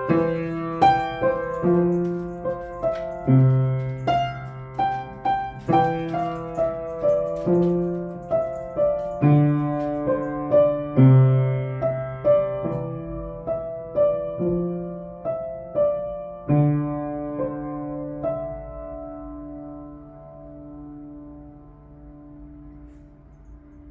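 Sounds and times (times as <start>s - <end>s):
low piano bass notes: 0.0s - 23.9s
piano melody: 0.0s - 23.9s.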